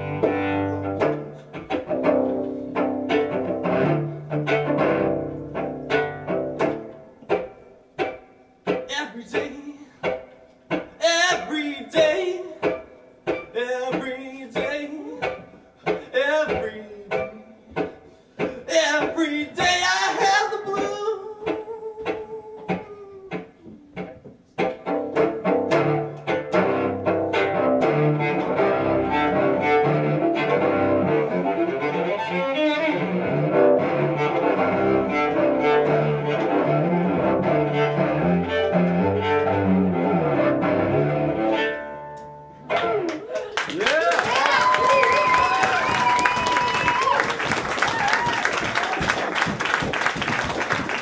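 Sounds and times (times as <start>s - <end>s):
solo cello: 0.0s - 8.8s, 9.5s - 43.0s.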